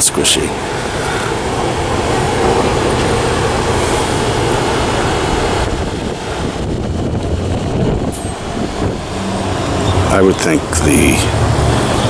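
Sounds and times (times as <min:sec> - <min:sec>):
loud passing vehicle rumbling: 0:00.4 - 0:12.0.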